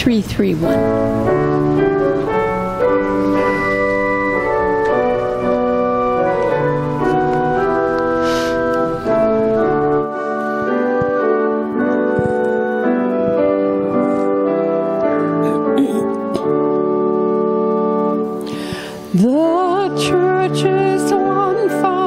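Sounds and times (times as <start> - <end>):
keyboard playing slow chords: 0.7 - 22.0.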